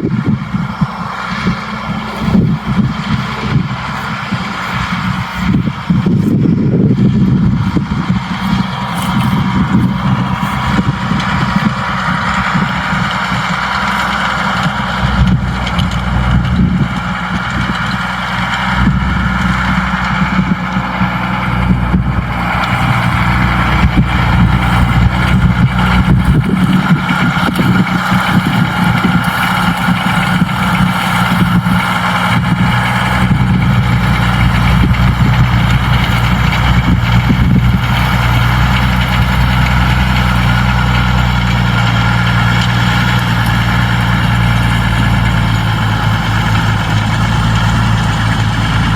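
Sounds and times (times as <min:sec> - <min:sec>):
tractor diesel engine droning: 0:00.0 - 0:48.9.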